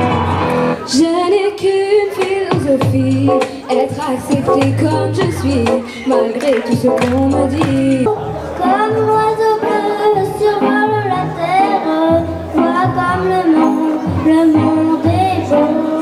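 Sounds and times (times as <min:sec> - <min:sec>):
girl singing into a microphone: 0:00.9 - 0:16.0
instrumental accompaniment: 0:02.1 - 0:16.0.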